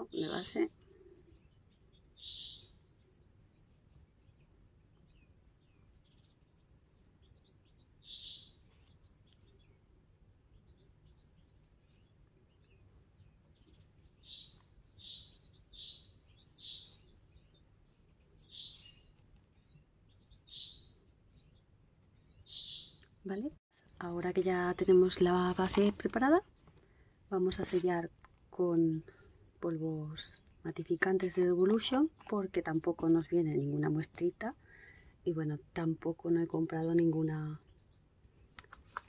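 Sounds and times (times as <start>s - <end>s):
bird chirping: 0.0s - 39.0s
faint low background noise: 0.0s - 39.0s.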